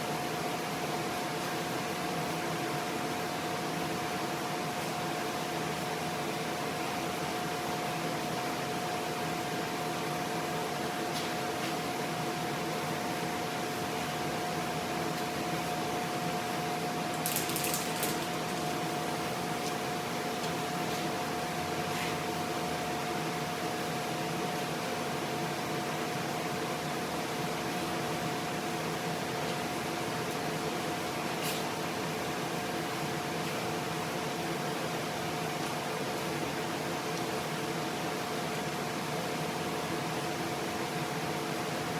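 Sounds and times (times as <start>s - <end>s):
mechanical hum with high whine: 0.0s - 41.9s.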